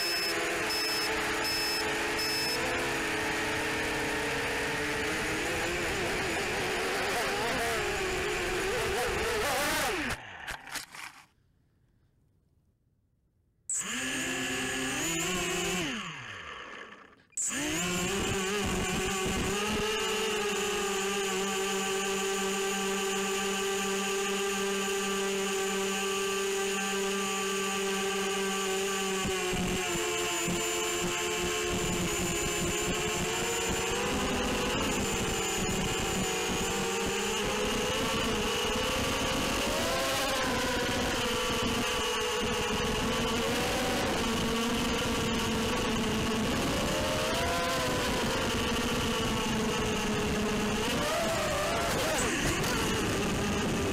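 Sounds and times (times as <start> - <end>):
quadcopter motors whining: 0.0 - 11.3, 13.7 - 53.9.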